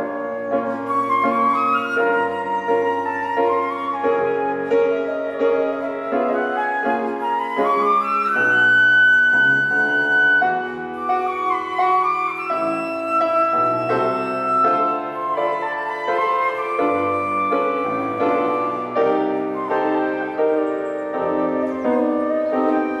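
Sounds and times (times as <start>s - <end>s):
flute melody: 0.0s - 23.0s
grand piano accompaniment: 0.0s - 23.0s.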